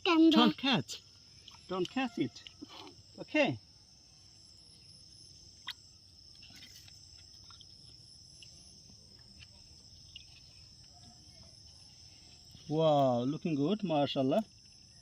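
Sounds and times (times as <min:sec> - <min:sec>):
high-pitched insect chirring: 0:00.0 - 0:15.0.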